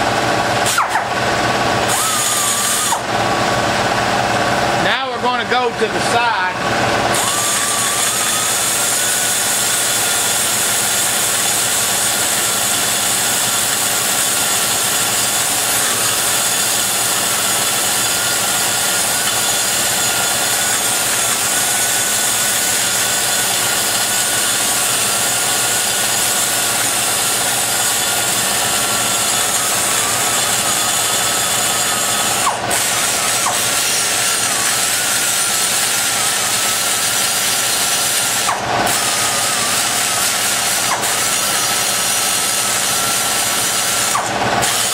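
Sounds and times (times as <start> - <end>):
die grinder cutting metal: 0.0 - 44.9.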